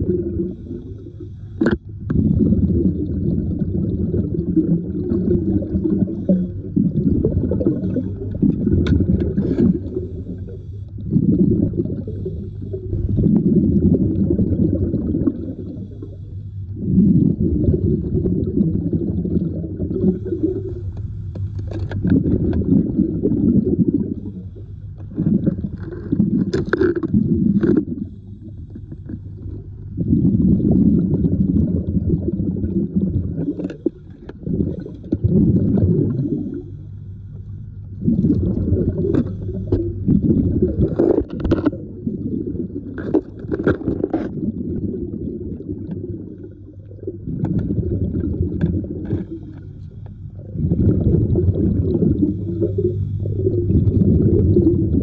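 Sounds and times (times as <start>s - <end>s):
muffled underwater bubbling: 0.0s - 55.0s.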